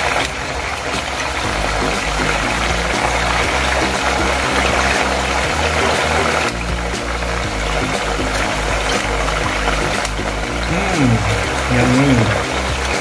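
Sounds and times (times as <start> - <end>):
oil sizzling in deep fryer: 0.0 - 10.7.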